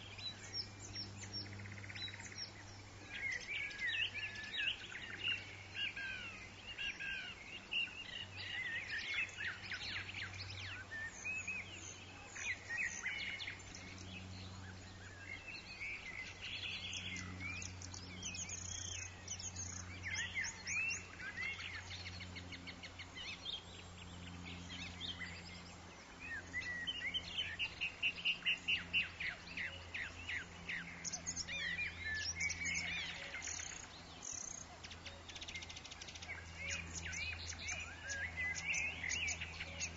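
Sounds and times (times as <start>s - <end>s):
birds chirping and whistling: 0.0s - 39.9s
steady low hum: 0.0s - 39.9s.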